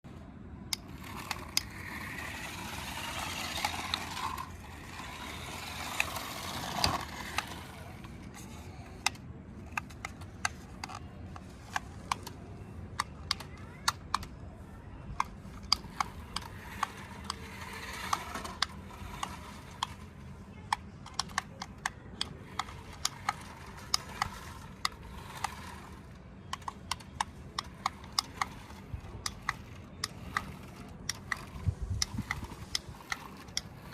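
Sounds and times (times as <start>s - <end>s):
toy motor and gearbox whirring: 0.1s - 33.9s
plastic clicks and clatters: 0.7s - 14.4s, 15.1s - 33.9s.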